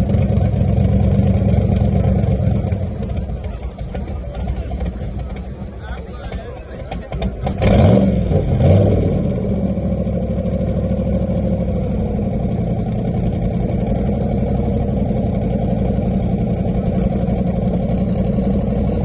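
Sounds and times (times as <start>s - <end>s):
car engine revving and idling: 0.0s - 19.0s.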